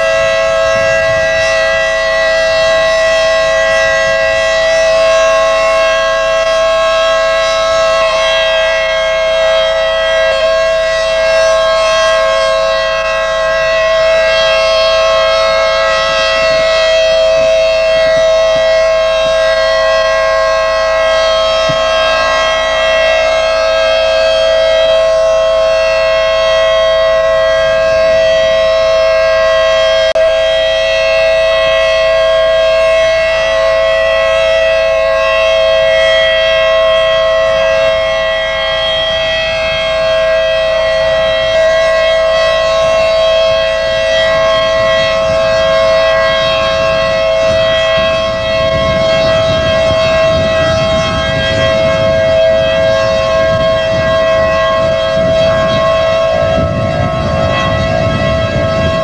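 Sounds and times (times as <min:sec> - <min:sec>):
warning siren steady tone: 0:00.0 - 0:59.0.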